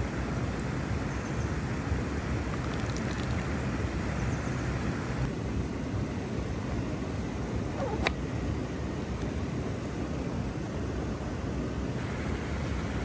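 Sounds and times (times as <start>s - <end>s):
river water over weir: 0.0s - 13.0s.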